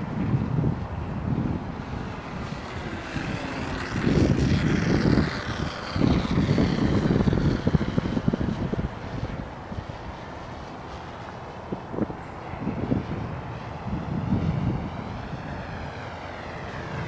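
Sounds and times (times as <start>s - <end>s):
model plane propeller whining: 0.0s - 17.0s
wind buffeting microphone: 0.0s - 17.0s.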